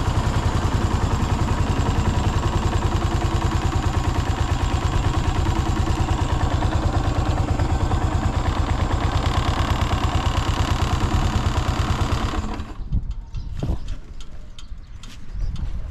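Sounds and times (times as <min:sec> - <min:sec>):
motorcycle engine idling: 0:00.0 - 0:15.2.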